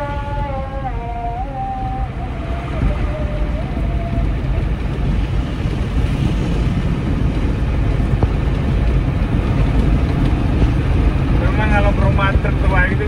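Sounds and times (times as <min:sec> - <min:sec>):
road noise: 0:00.0 - 0:13.0
truck diesel engine rumble: 0:00.0 - 0:13.0.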